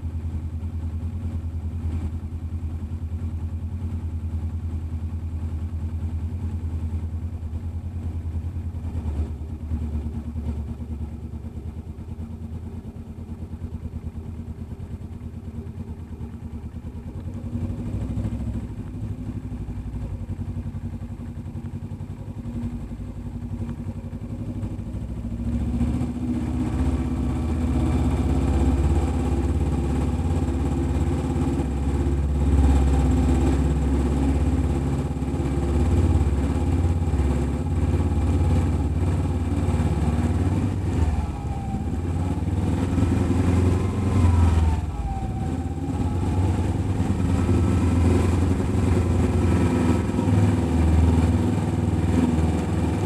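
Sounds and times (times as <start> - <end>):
motorcycle engine running at low revs: 0.0 - 53.0.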